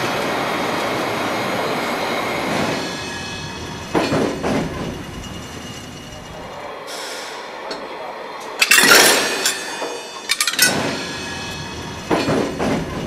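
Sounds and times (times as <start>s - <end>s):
freight wagons clanking on rails: 2.3s - 13.0s.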